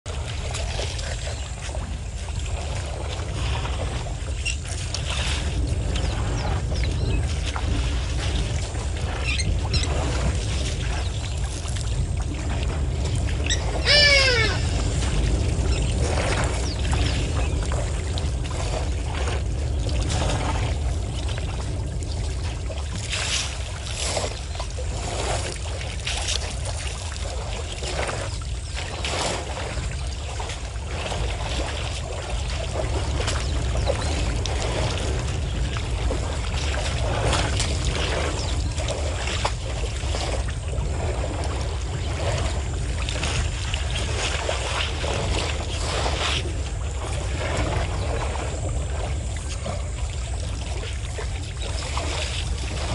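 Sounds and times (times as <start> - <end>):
water splashing and sloshing: 0.0 - 52.9
steady low rumble: 0.1 - 52.9.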